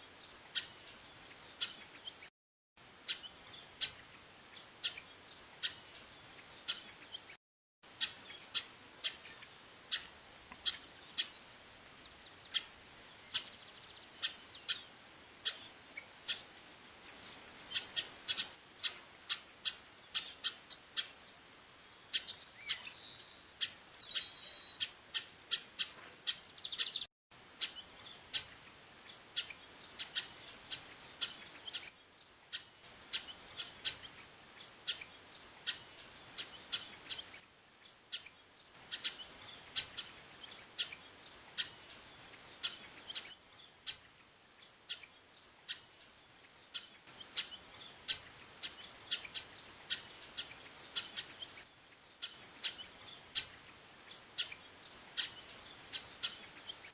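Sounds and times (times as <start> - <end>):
insects buzzing: 0.0 - 56.9.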